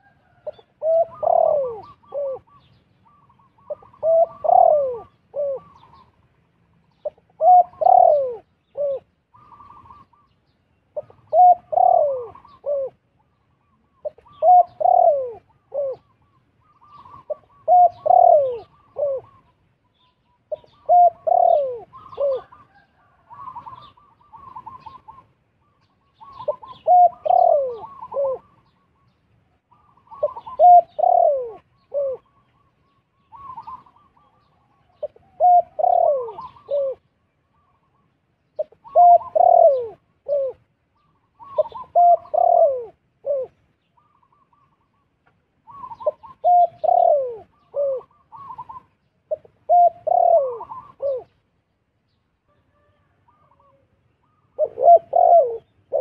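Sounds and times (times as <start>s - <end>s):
dove cooing: 0.0s - 6.3s, 6.9s - 51.6s, 52.5s - 56.0s.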